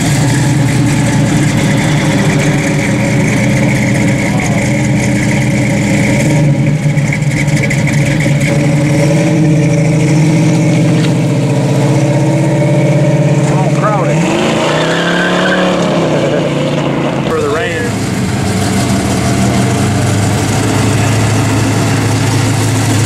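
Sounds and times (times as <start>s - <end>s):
car engine idling loudly: 0.0s - 23.0s.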